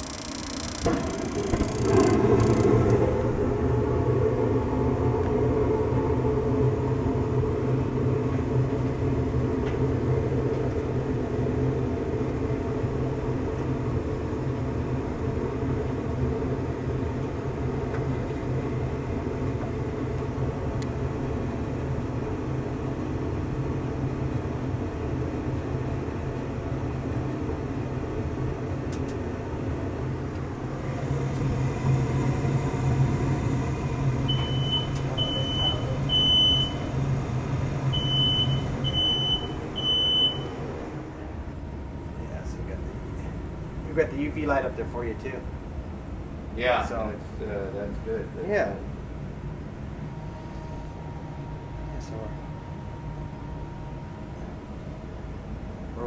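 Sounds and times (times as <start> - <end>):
gas furnace humming: 0.0 - 56.0.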